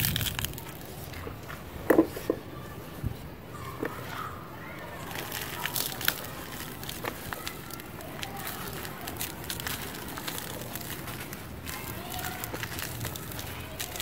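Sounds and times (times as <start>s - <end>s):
dry cement crunching in hands: 0.0s - 2.4s, 4.8s - 14.0s.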